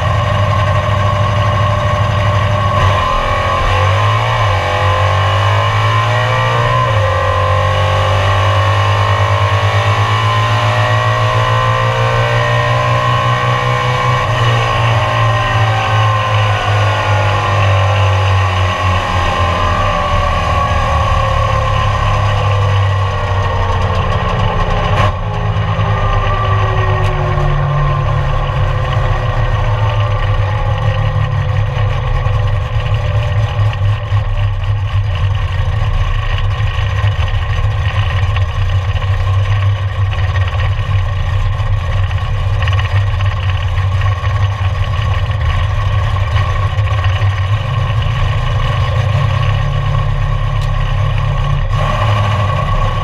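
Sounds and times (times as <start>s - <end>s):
car engine whining and rumbling: 0.0s - 53.0s.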